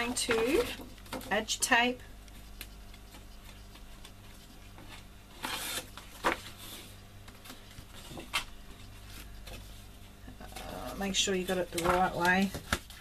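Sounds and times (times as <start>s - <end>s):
paper rustling: 2.5s - 13.0s.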